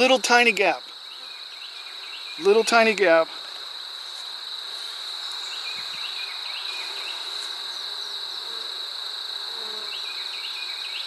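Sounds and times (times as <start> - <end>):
honey bees buzzing: 0.0 - 10.6
high-pitched insect chorus: 0.0 - 11.0.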